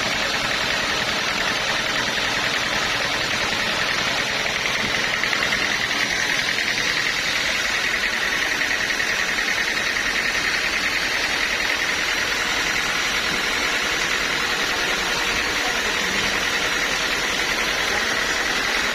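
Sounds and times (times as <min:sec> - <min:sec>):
sawmill machinery whining: 0:00.0 - 0:18.9.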